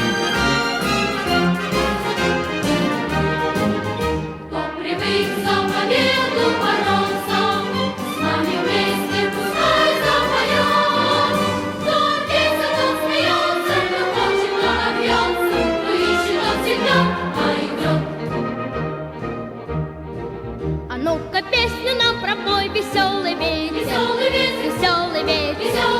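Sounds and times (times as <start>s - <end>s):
choir singing: 0.0s - 19.6s, 23.3s - 25.9s
orchestral accompaniment with beat: 0.0s - 25.9s.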